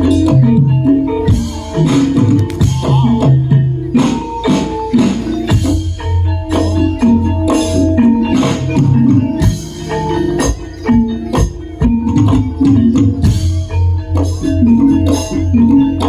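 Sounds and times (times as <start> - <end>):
gong-chimes and metallophones melody: 0.0 - 16.0.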